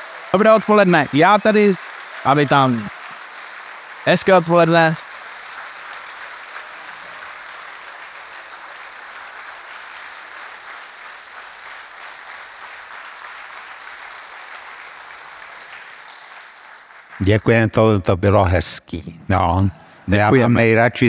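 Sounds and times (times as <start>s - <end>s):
audience applauding: 0.0s - 18.5s.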